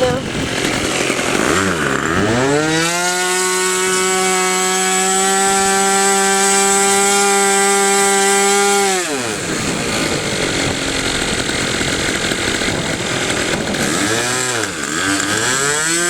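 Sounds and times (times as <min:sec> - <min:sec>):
model airplane engine buzzing: 0:00.0 - 0:16.0.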